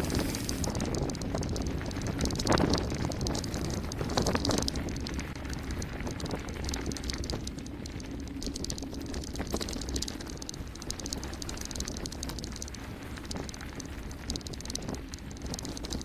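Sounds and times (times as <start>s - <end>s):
bike clattering: 0.0s - 16.0s
tyres rattling over stones: 0.0s - 16.0s
wind buffeting microphone: 0.0s - 16.0s.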